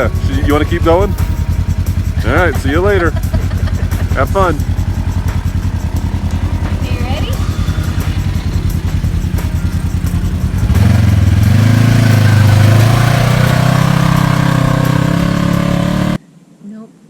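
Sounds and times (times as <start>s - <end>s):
utility vehicle engine idling and revving: 0.0s - 16.2s.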